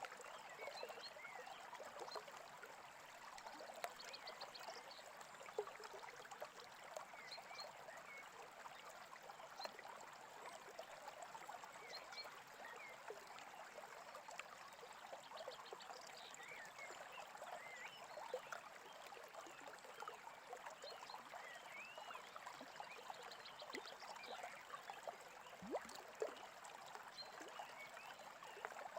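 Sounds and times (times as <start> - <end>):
brook babbling: 0.0 - 28.9.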